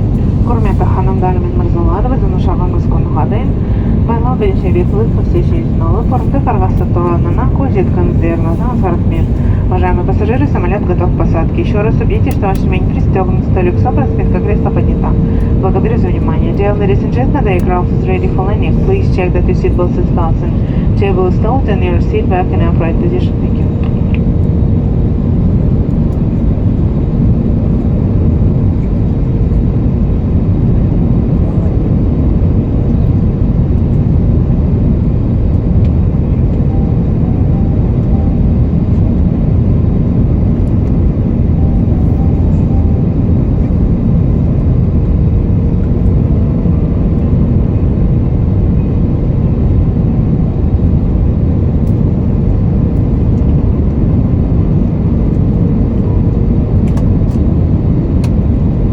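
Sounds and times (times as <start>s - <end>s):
faint steady hum: 0.0s - 26.9s, 30.4s - 58.9s
airflow rush in aircraft cabin: 0.0s - 58.9s
jet engine rumble: 0.0s - 58.9s.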